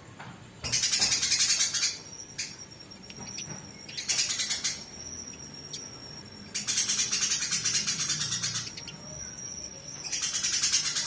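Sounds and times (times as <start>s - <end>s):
sparrows chattering: 0.6s - 11.0s.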